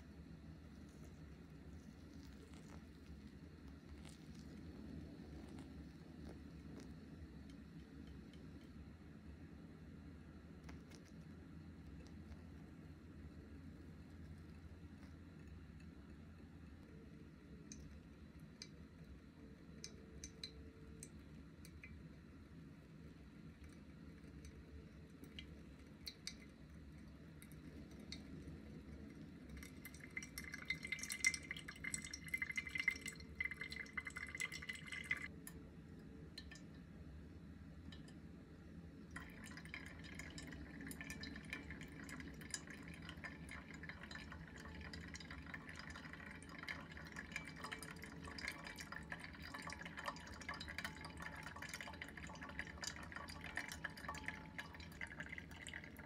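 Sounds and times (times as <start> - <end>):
water trickling onto coffee grounds: 0.0 - 56.0
coffee dripping into glass: 0.3 - 9.4, 10.2 - 37.1, 37.8 - 56.0.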